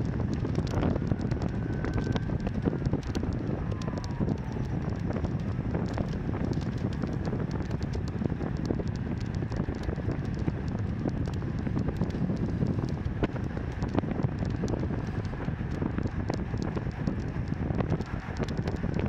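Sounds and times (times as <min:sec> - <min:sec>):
bicycle clicks and rattles: 0:00.0 - 0:19.0
wind buffeting microphone: 0:00.0 - 0:19.0.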